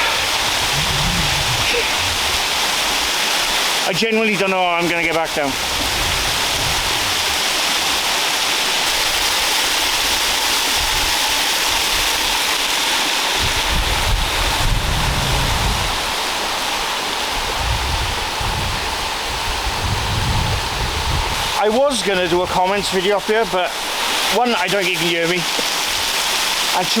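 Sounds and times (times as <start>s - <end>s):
wind buffeting microphone: 0.0s - 3.8s, 5.0s - 23.0s
waterfall crashing: 0.0s - 19.8s, 20.6s - 27.0s.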